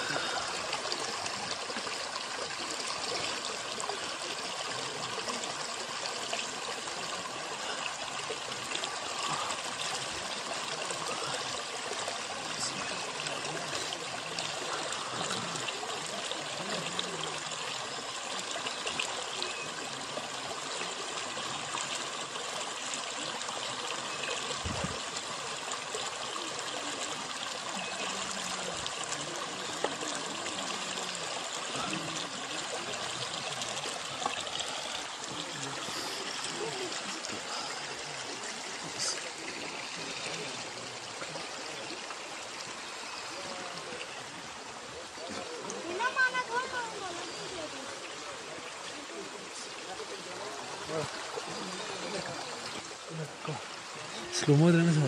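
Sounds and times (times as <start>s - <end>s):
stream of water over rocks: 0.0s - 55.0s.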